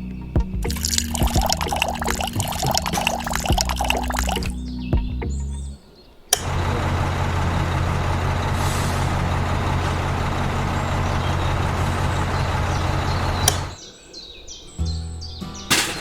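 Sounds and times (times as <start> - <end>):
engine humming with hiss: 0.0 - 13.8.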